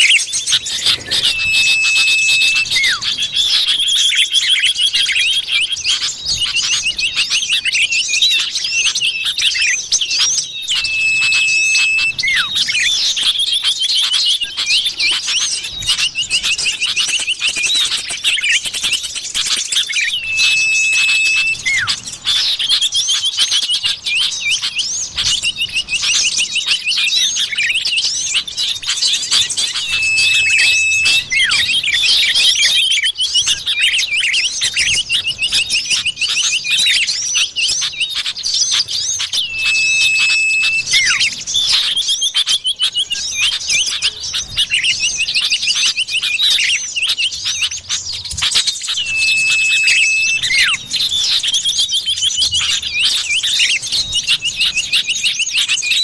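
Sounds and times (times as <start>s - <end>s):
bird chirping and trilling: 0.0s - 56.0s
long level bird whistle: 0.0s - 56.0s.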